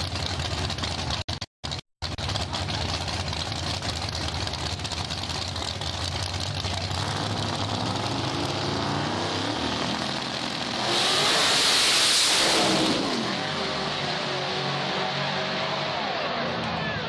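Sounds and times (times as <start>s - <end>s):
drag race car engines revving: 0.0s - 17.0s.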